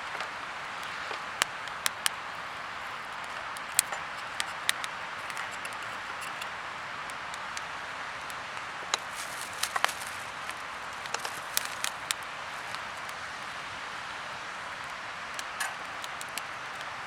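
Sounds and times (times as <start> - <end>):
firewood popping and snapping: 0.0 - 13.4, 14.6 - 17.0.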